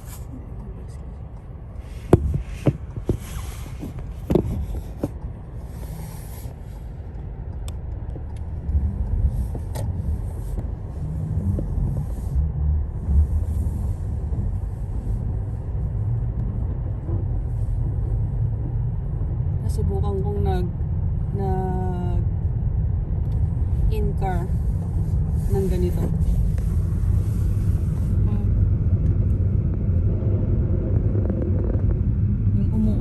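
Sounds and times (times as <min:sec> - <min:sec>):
tyre and road rumble: 0:00.0 - 0:33.0.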